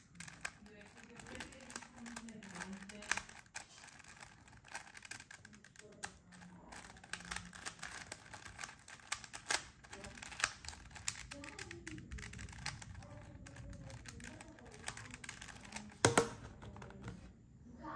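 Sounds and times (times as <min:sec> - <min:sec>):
plastic puzzle cube clicking: 0:00.0 - 0:17.3.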